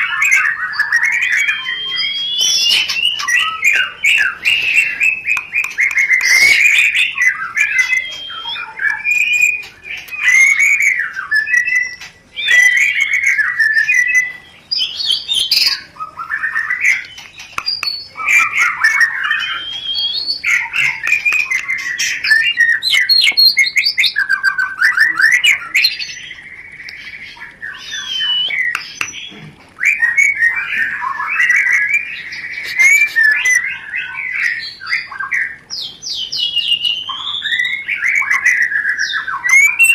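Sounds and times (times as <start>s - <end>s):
bird chattering and harsh calls: 0.0s - 39.9s
bird singing whistled phrases: 0.0s - 39.9s.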